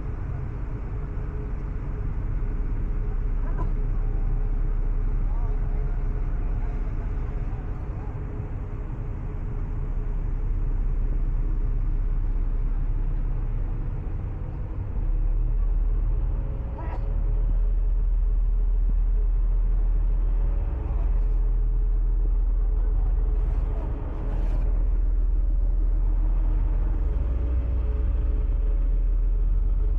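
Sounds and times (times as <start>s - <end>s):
ferry engines rumbling: 0.0s - 29.9s.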